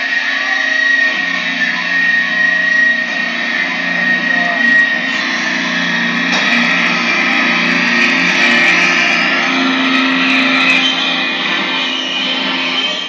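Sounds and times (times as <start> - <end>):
distorted electric guitar feedback: 0.0 - 13.0.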